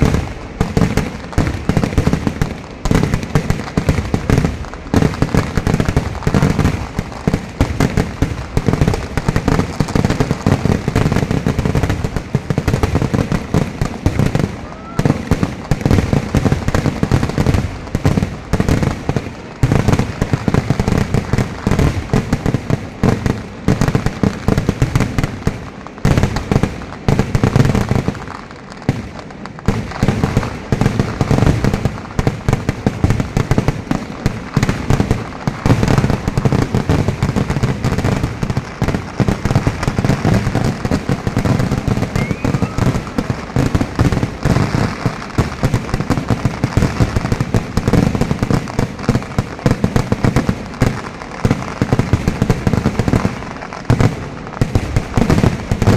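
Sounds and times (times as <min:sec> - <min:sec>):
fireworks barrage: 0:00.0 - 0:55.9.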